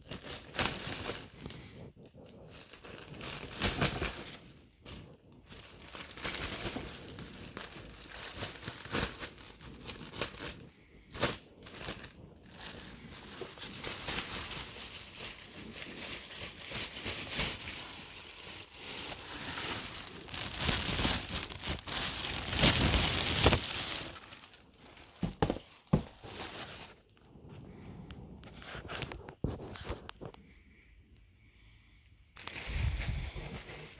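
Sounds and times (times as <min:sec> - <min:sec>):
packaging crinkling and rustling: 0:00.0 - 0:27.8, 0:28.4 - 0:30.4, 0:32.4 - 0:33.9.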